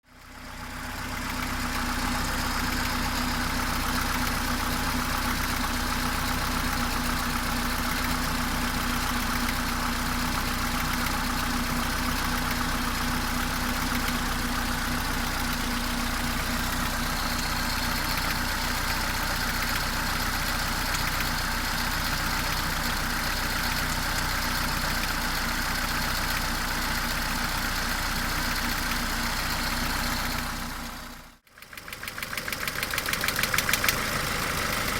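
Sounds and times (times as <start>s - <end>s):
car engine idling: 0.1s - 34.9s
engine clattering: 0.9s - 34.9s.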